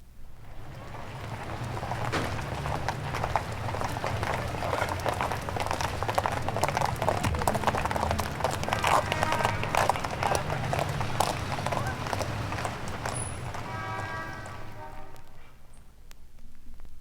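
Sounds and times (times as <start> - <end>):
voices: 0.4 - 15.7
footsteps on pavement: 0.5 - 15.5.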